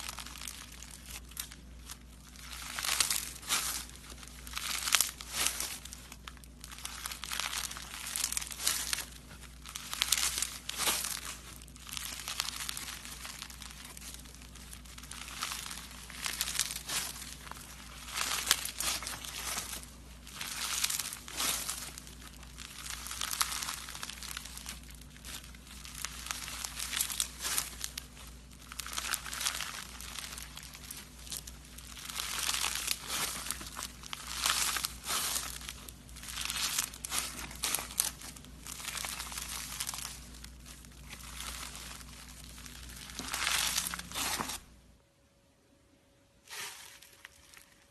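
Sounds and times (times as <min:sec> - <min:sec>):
slime crackling: 0:00.0 - 0:44.8.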